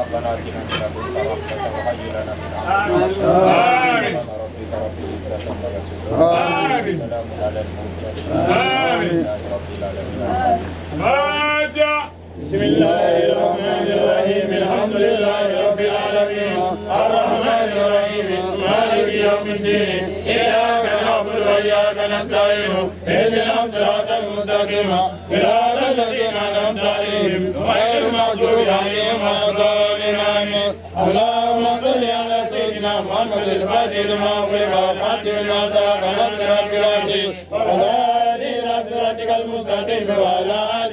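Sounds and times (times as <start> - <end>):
man chanting a prayer: 0.0 - 40.9.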